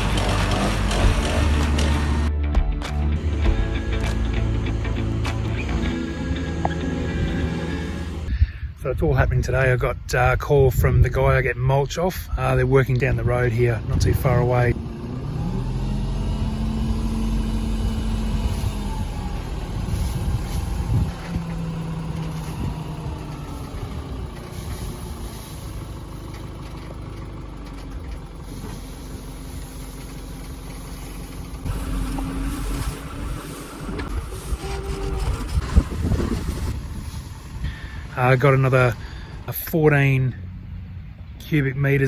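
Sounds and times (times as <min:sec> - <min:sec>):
heavy truck engine running: 0:00.0 - 0:08.4, 0:13.2 - 0:41.4.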